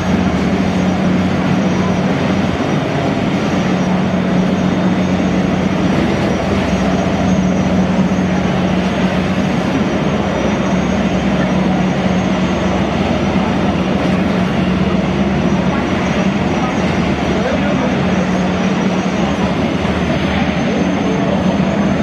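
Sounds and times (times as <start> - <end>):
ferry engines rushing: 0.0 - 22.0.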